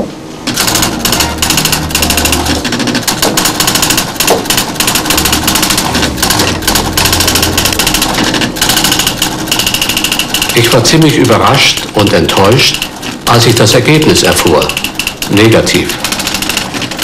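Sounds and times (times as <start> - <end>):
teleprinter chattering: 0.5 - 17.0.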